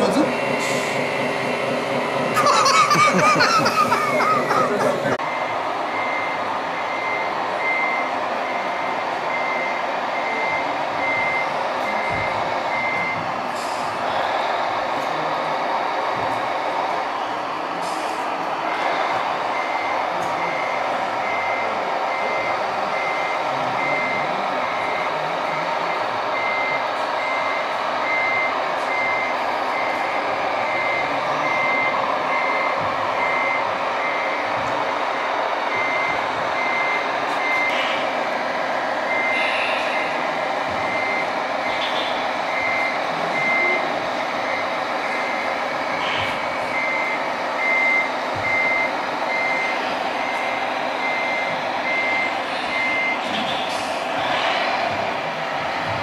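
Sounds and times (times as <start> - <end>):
simulated diesel engine hum: 0.0 - 56.0
electronic reversing beeps: 3.8 - 13.3, 18.6 - 38.1, 39.0 - 55.0.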